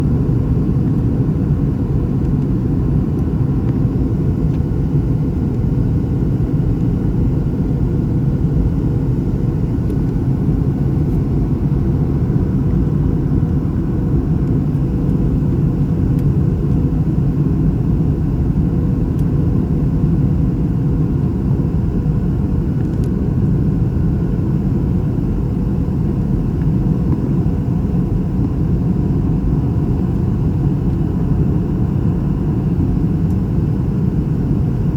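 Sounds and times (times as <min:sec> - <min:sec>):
airplane cabin engine drone: 0:00.0 - 0:34.9.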